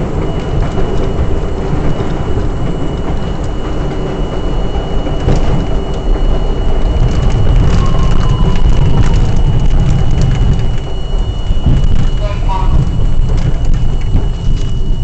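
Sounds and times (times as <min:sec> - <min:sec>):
sharp track clicks: 0:00.0 - 0:15.0
subway wheels rumbling on rail: 0:00.0 - 0:15.0.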